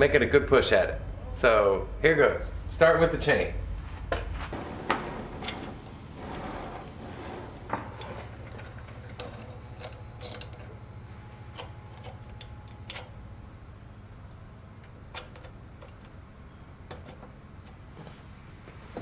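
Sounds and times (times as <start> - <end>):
low hum: 0.0 - 17.7.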